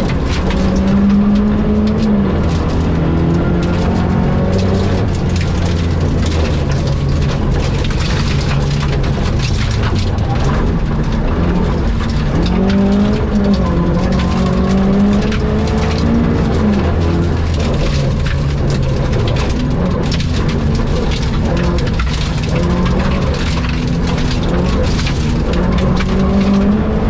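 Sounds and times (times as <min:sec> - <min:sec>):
rally car engine accelerating: 0:00.0 - 0:27.0
tyre and road noise: 0:00.0 - 0:27.0.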